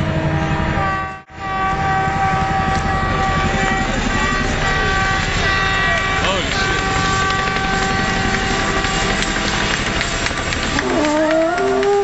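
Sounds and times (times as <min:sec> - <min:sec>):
fans blowing horns: 0:00.0 - 0:12.0
helicopter rotor beating: 0:01.4 - 0:12.0.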